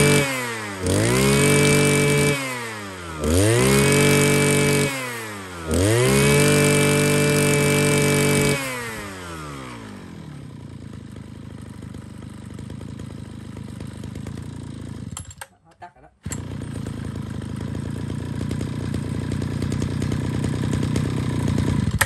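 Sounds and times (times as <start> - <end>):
brush cutter engine revving: 0.0 - 15.5, 16.1 - 22.0.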